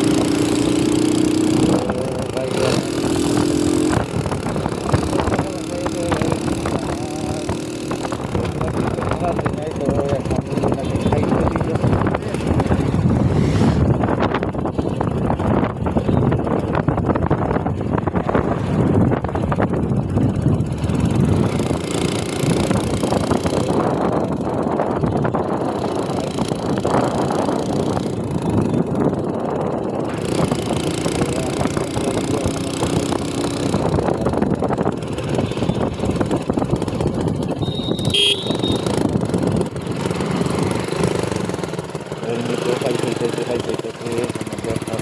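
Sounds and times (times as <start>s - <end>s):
motorcycle engine running: 0.0s - 45.0s
wind and road noise: 0.0s - 45.0s.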